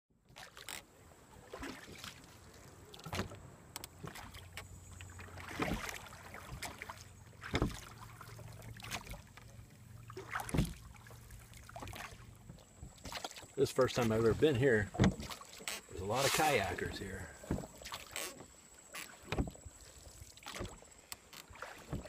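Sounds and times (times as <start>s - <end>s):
canoe paddle splashing swish: 0.3s - 22.0s.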